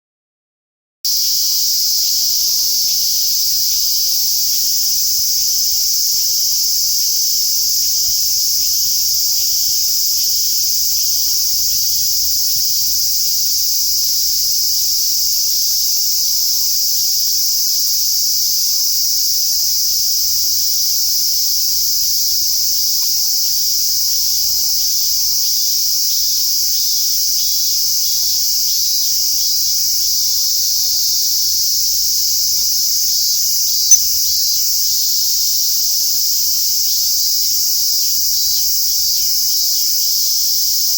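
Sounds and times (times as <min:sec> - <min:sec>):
cicadas droning: 0:01.1 - 0:40.9.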